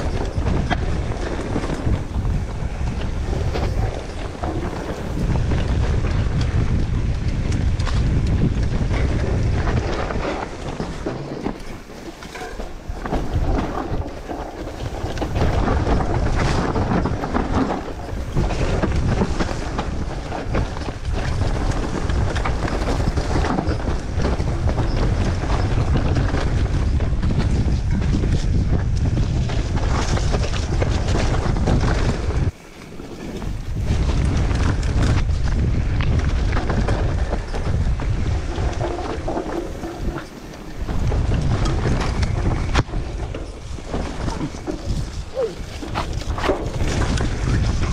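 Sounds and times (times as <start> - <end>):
bike rattling over bumps: 0.0 - 47.9
tyres on dirt: 0.0 - 47.9
wind on microphone: 0.0 - 47.9.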